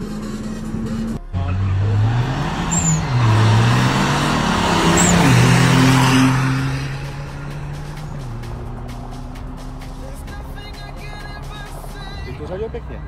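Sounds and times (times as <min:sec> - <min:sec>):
diesel engine accelerating hard: 0:00.0 - 0:13.0.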